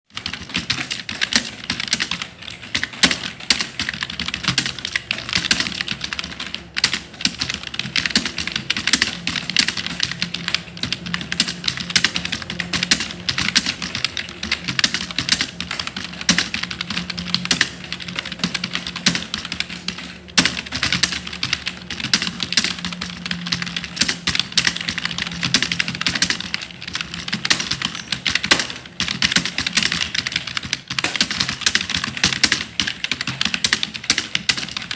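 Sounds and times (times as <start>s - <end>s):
fast keyboard typing: 0.1s - 34.9s.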